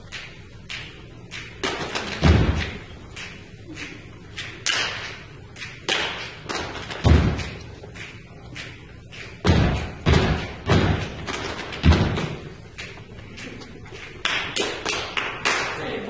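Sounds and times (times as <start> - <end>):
high percussion taps and clicks: 0.0 - 15.7.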